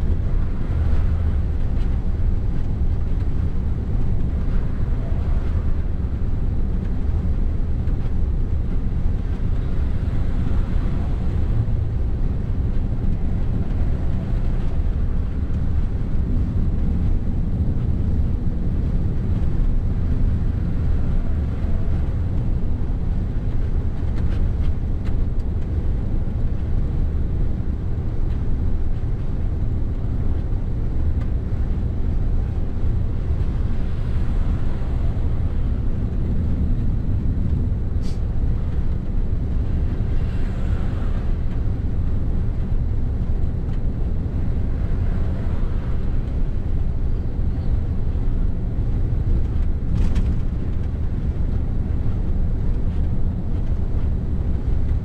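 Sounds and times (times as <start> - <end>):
road noise: 0.0 - 55.0
truck diesel engine drone: 0.0 - 55.0.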